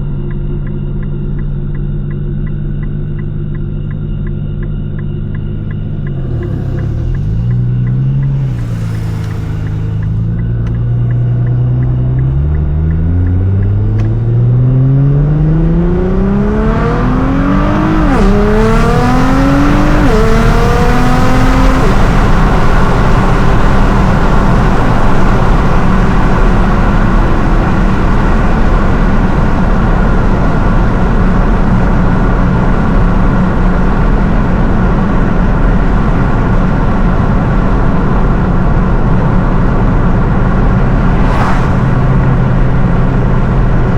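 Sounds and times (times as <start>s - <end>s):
car engine accelerating hard: 2.7s - 43.9s.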